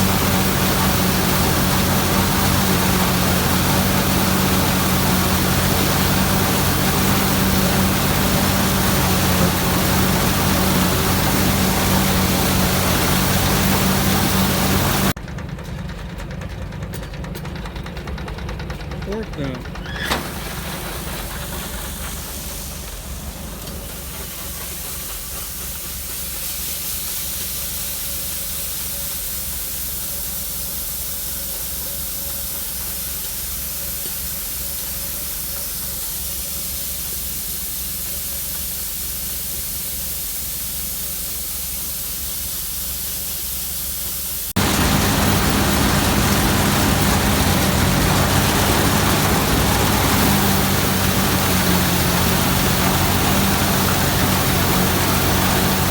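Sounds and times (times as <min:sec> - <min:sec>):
constant hiss: 0:00.0 - 0:15.2, 0:21.1 - 0:55.9
combine harvester engine drone: 0:00.0 - 0:41.8, 0:44.1 - 0:55.9.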